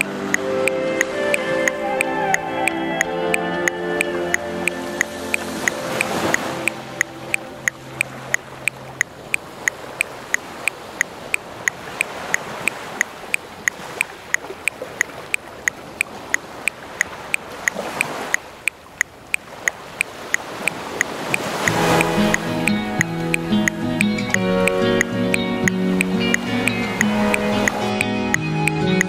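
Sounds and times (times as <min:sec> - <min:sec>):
metronome ticking: 0:00.0 - 0:29.0
ocean waves on a shore: 0:00.0 - 0:29.0.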